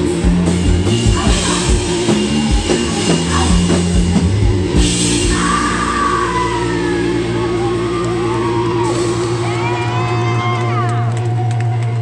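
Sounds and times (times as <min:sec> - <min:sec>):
drums: 0:00.0 - 0:12.0
bending high guitar wail: 0:00.8 - 0:11.8.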